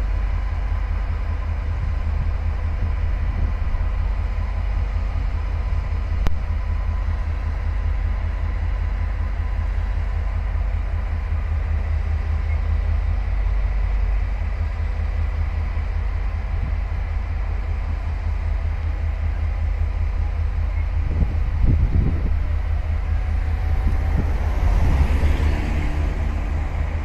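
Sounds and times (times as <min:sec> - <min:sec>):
diesel train engine idling: 0:00.0 - 0:27.0.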